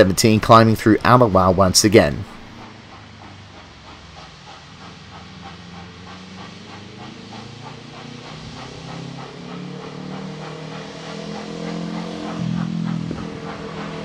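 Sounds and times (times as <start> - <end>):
low hum: 0.0 - 14.0
steam locomotive exhaust chuffing: 0.0 - 14.0.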